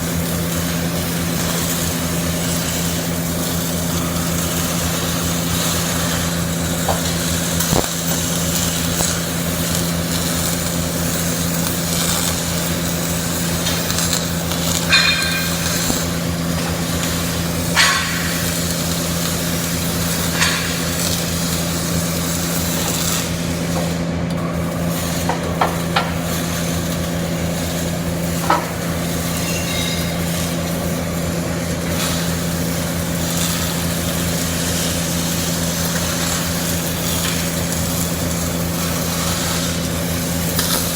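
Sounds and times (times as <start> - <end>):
welding arc sizzling crackle: 0.0 - 40.9.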